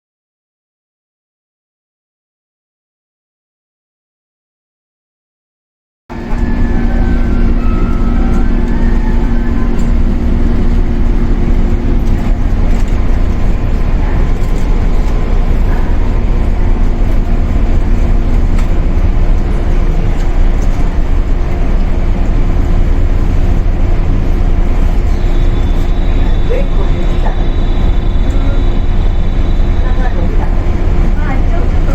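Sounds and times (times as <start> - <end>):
train cabin low rumble: 6.1 - 31.9
electrical hum: 6.2 - 31.9.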